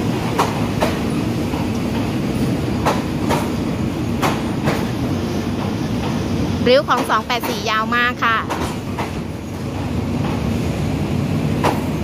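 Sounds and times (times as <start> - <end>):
wheels clacking over rail joints: 0.0 - 10.6, 11.6 - 12.0
passenger train rumbling past: 0.0 - 12.0.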